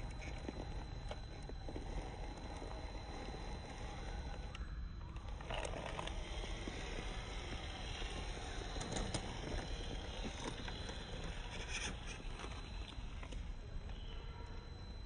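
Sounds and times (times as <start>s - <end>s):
toy car drivetrain grinding: 0.0s - 14.1s.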